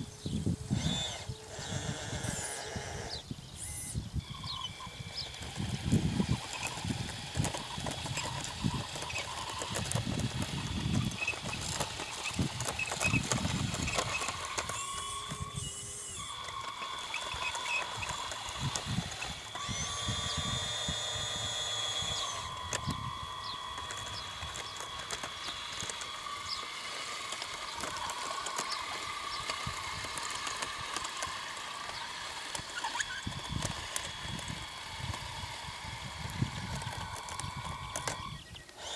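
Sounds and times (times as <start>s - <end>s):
toy motor and gears whining: 0.0s - 38.9s.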